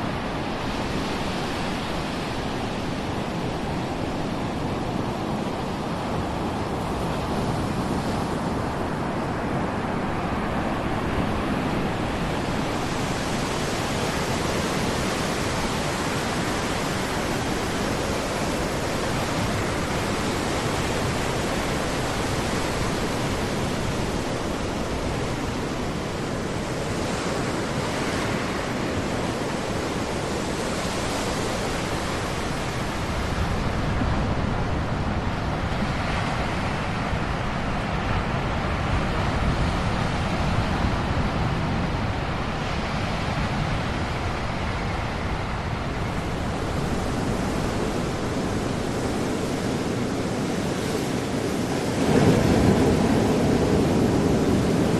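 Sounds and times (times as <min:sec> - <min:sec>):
ocean waves washing: 0:00.0 - 0:54.9.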